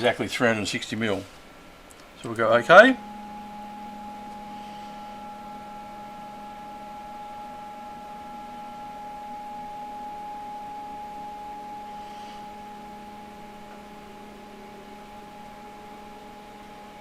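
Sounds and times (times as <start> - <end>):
stepper motor whine: 2.5 - 17.0.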